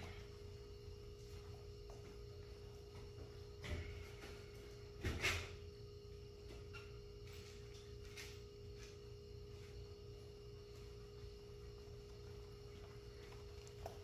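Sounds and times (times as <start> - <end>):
constant pitched tone: 0.0 - 14.0
faint steady hum: 0.0 - 14.0.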